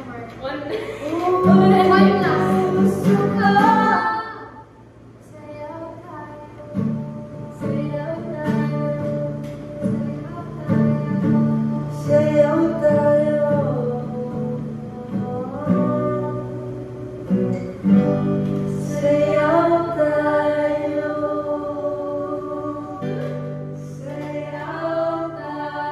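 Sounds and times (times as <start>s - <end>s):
acoustic guitars strumming: 0.0s - 25.9s
women singing together: 0.7s - 4.7s, 5.3s - 16.8s, 18.6s - 25.9s.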